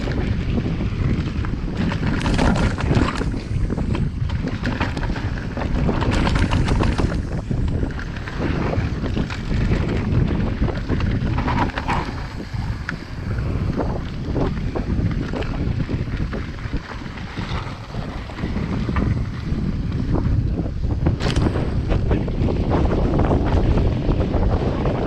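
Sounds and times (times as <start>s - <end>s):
bike rattles and knocks: 0.0s - 25.0s
wind buffeting microphone: 0.0s - 25.0s.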